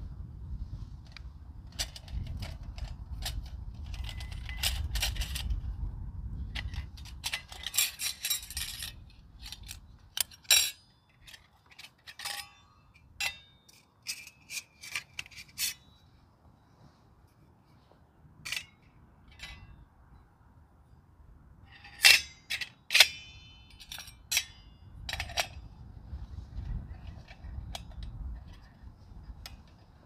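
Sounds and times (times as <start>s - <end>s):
metal parts clinking and scraping: 1.0s - 5.8s, 6.4s - 16.2s, 18.4s - 19.8s, 21.7s - 30.0s.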